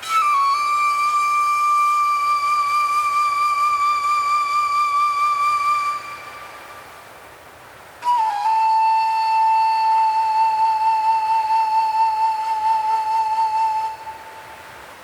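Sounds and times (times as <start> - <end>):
flute long held note: 0.0 - 7.1, 8.0 - 14.8
soft wind-like hiss: 0.0 - 15.0.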